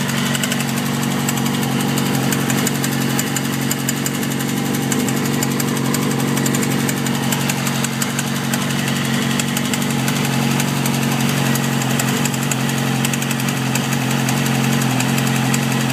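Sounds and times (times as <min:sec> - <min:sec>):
fast regular ticking: 0:00.0 - 0:15.9
motorcycle engine idling: 0:00.0 - 0:15.9.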